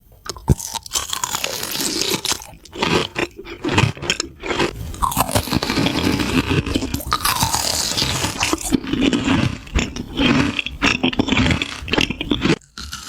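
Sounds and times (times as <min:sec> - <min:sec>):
crunching of crisp food: 0:00.2 - 0:13.0.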